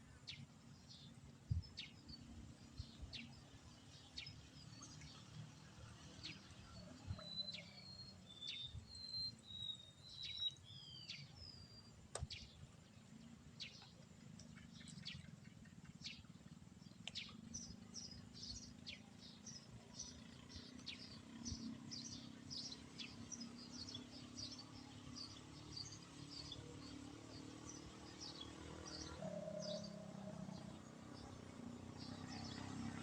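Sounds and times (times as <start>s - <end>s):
small birds chirping: 0.1s - 33.0s.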